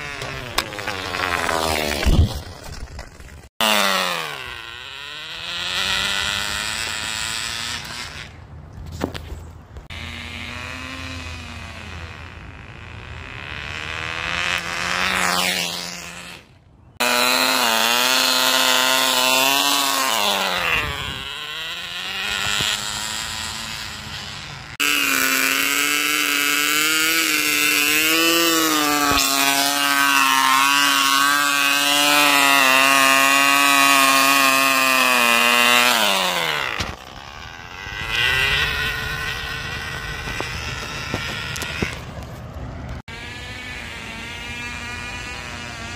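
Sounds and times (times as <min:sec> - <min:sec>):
model engine high-pitched whine: 0:03.6 - 0:08.6, 0:09.8 - 0:45.9.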